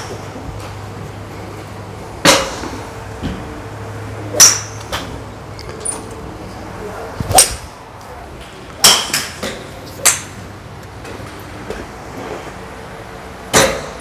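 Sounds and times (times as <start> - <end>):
golf clubs striking balls: 0.0 - 3.6, 4.2 - 6.3, 7.2 - 12.6, 13.5 - 14.0.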